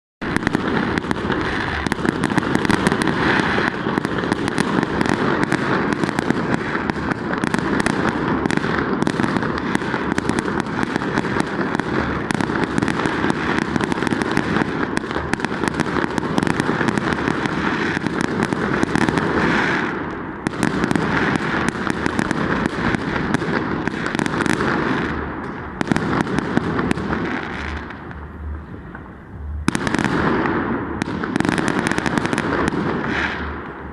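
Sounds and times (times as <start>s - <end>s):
fireworks bangs and crackles: 0.2s - 33.9s.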